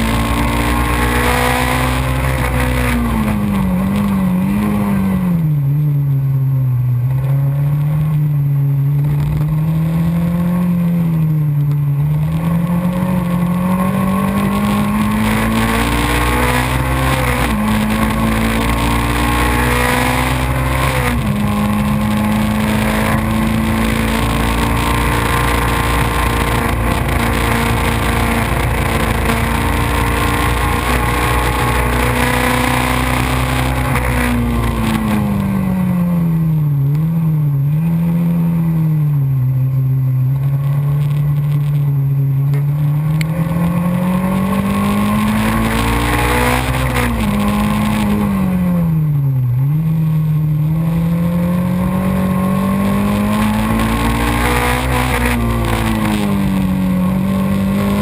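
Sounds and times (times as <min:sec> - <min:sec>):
racing car engine: 0:00.0 - 0:58.0
wind and road noise: 0:00.0 - 0:58.0.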